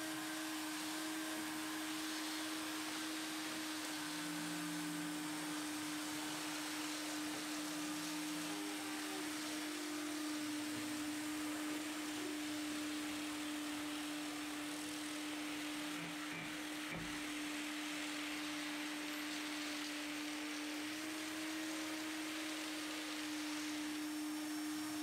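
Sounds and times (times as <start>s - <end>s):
electric motor humming: 0.0s - 25.0s
faint hiss: 0.0s - 25.0s.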